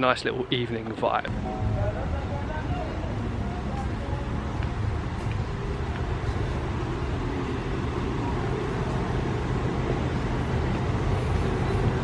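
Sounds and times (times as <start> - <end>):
bus engines idling: 0.0 - 12.0
traffic rumble: 0.0 - 12.0.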